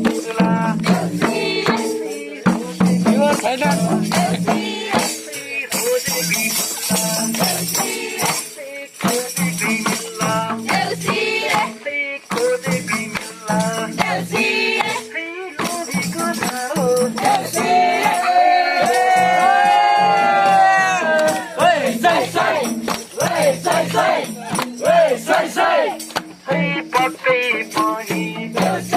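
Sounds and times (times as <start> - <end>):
jingling rattling shaker: 0.0 - 28.9
rhythmic percussion beat: 0.0 - 28.9
voices singing: 0.0 - 28.9.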